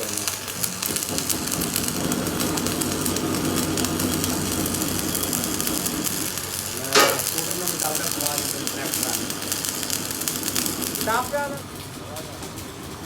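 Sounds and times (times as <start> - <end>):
machinery humming: 0.5 - 13.0.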